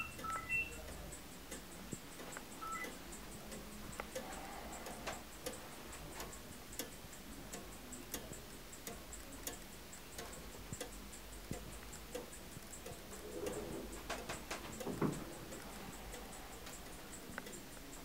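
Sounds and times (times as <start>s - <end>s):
clock ticking: 0.0s - 18.0s.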